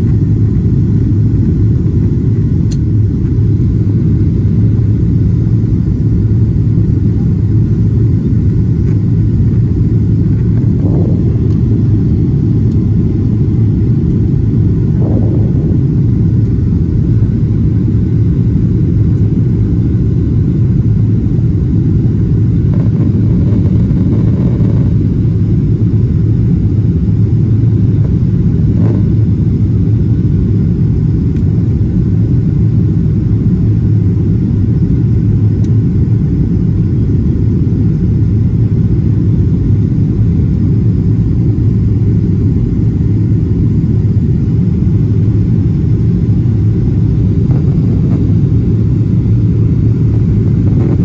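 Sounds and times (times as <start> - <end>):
airliner cabin rumble in flight: 0.0 - 51.0.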